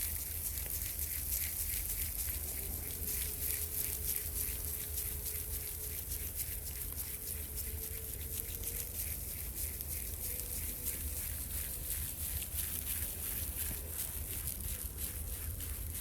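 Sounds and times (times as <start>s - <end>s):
faint steady tone: 0.0s - 15.4s.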